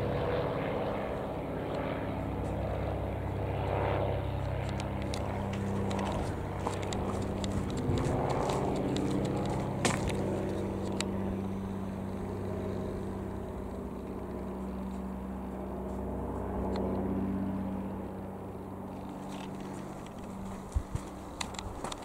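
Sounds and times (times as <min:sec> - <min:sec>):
propeller aircraft droning overhead: 0:00.0 - 0:22.0.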